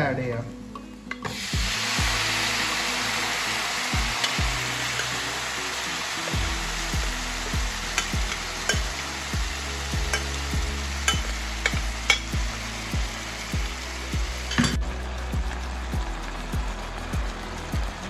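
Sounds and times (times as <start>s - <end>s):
background music beat: 0.4s - 18.0s
beef sizzling in frying pan: 1.2s - 18.0s.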